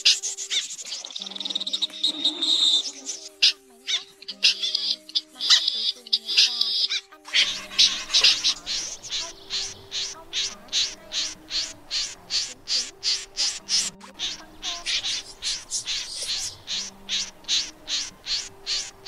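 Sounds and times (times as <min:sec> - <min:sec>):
snipe calling: 0:00.0 - 0:19.0.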